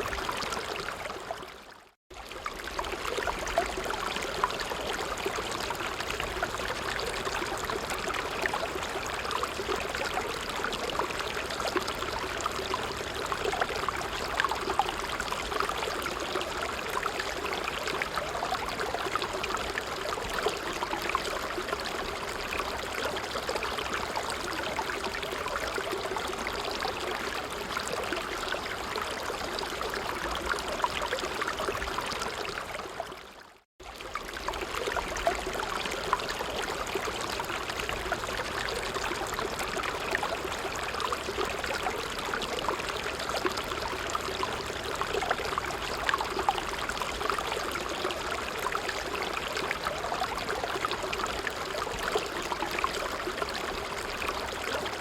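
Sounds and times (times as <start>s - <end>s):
stream of water flowing: 0.0s - 55.0s.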